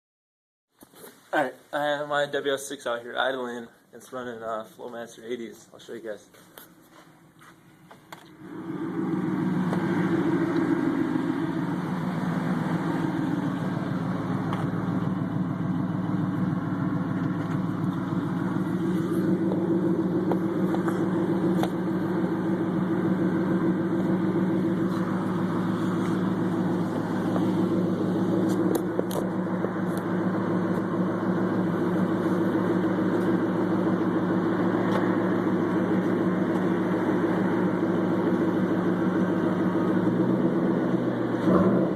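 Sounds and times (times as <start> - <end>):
car engine idling: 6.8 - 41.9.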